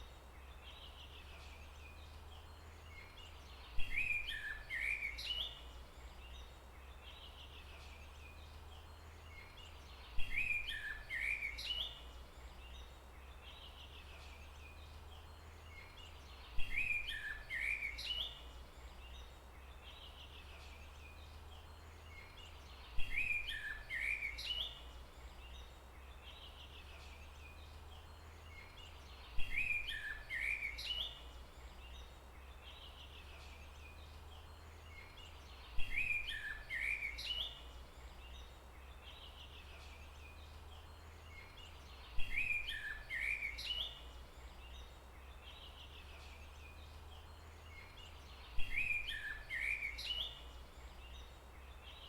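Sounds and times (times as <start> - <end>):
bird chirping song: 0.0 - 52.0.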